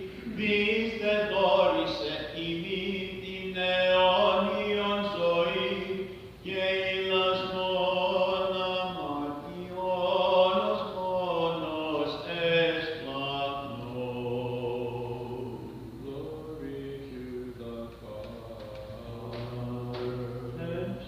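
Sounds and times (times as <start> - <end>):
low held vocal drone: 0.0 - 21.0
voices chanting a hymn: 0.0 - 21.0.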